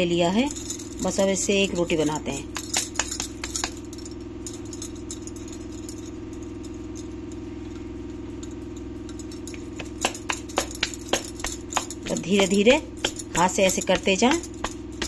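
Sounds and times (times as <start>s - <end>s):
low electrical hum: 0.0s - 15.0s
bangles clinking together: 0.4s - 15.0s.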